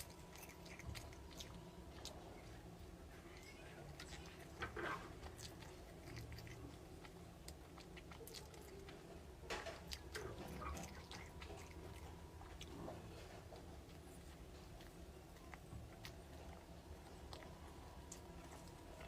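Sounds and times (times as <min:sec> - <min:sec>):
bites: 0:00.0 - 0:19.0
person chewing: 0:00.0 - 0:19.0.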